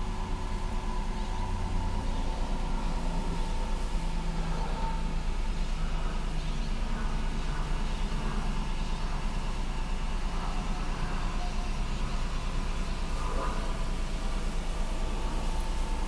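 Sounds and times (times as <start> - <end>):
low rumble and hum: 0.0 - 16.0.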